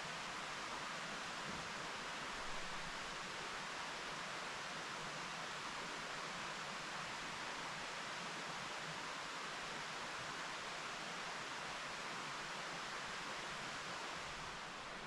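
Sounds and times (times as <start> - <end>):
mountain stream flowing: 0.0 - 15.0.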